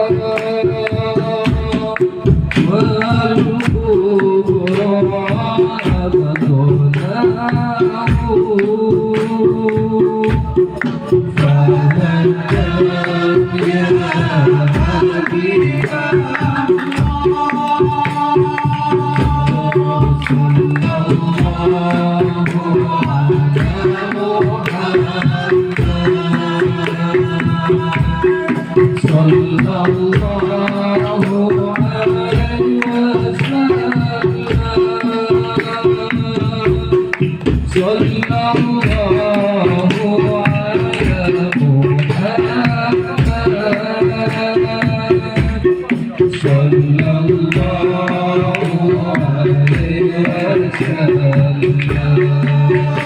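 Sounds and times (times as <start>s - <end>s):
devotional singing: 0.0s - 53.0s
hand drums: 0.0s - 53.0s.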